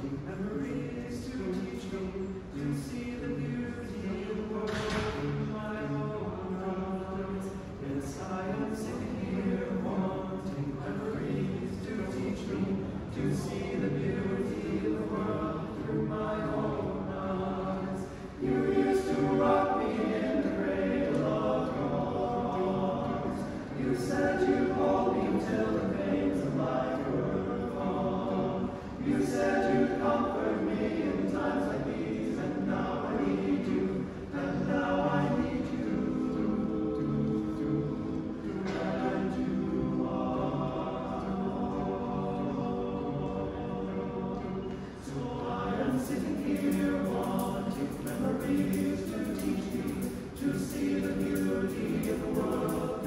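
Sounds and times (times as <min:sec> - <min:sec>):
men's choir singing in close harmony: 0:00.0 - 0:53.0.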